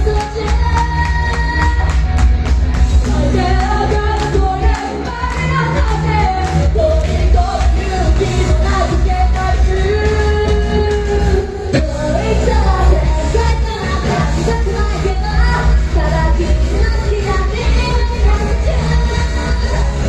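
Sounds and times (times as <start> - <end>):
heavy bass: 0.0 - 20.0
pop-rock band playing: 0.0 - 20.0.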